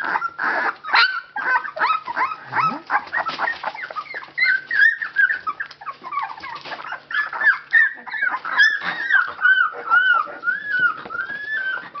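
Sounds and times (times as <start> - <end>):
puppies whimpering and squeaking: 0.0 - 12.0.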